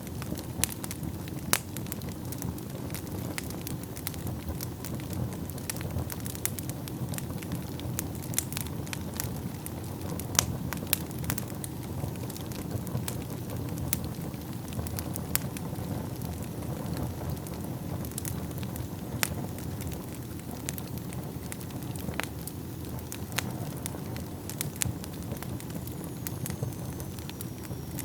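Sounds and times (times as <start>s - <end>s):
fire crackling and popping: 0.0s - 28.0s
flames rumbling: 0.0s - 28.0s.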